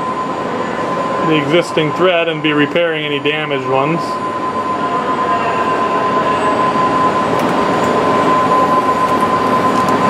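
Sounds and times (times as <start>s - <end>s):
lathe running with high whine: 0.0s - 10.0s.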